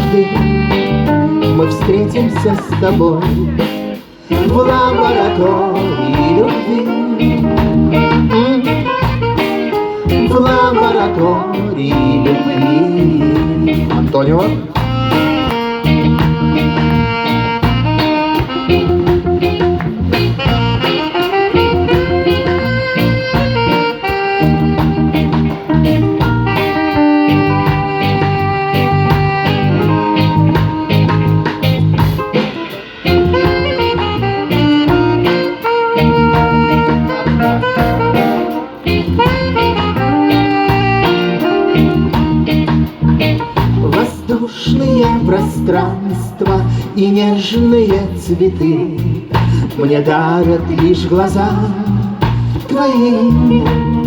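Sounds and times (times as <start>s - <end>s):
live pop band playing: 0.0s - 54.0s.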